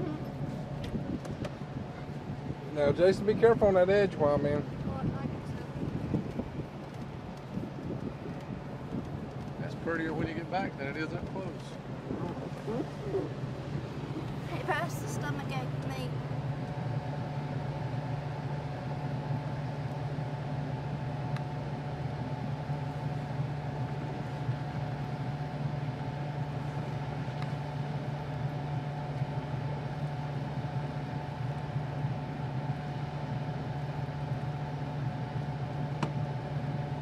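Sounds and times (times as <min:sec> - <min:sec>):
boat engine idling: 0:00.0 - 0:37.0
faint steady whine: 0:00.0 - 0:37.0.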